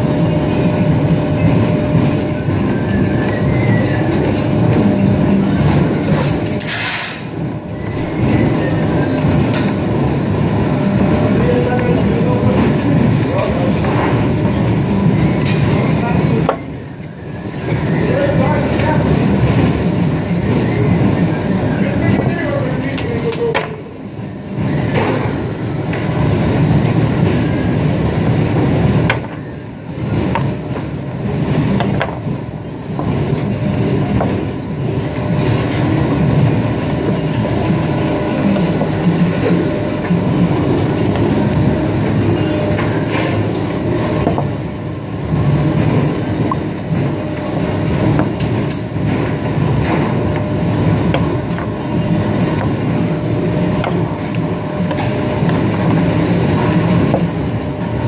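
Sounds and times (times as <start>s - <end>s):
machinery rumble and hum: 0.0s - 58.0s.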